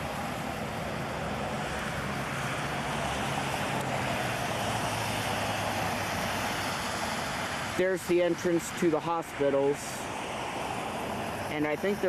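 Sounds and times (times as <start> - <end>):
low engine hum: 0.0 - 12.0
tyres hissing on wet road: 0.0 - 12.0.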